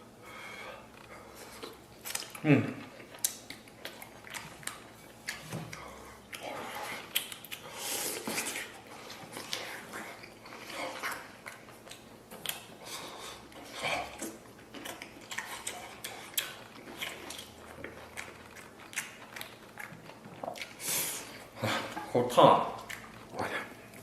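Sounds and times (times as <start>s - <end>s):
person chewing: 0.8s - 24.0s.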